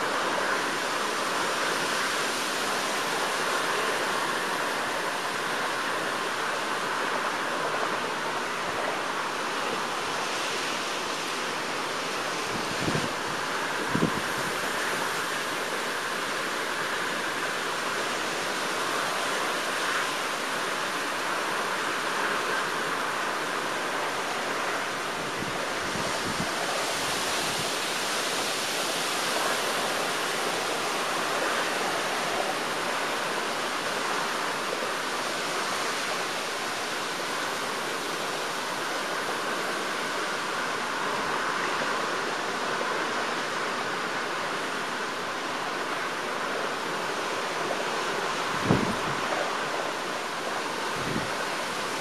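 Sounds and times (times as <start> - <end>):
wind rushing through trees: 0.0 - 52.0.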